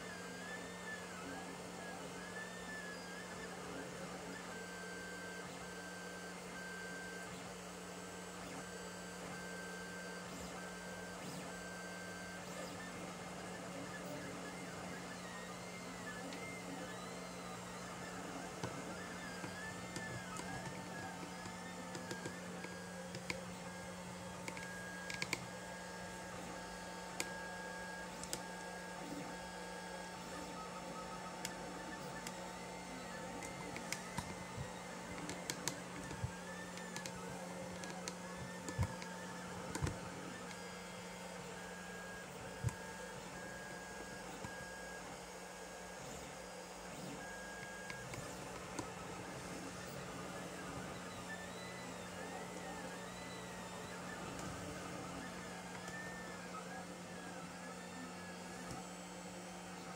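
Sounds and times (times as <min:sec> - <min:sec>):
steady hum: 0:00.0 - 0:59.9
stepper motors whining: 0:00.2 - 0:59.9.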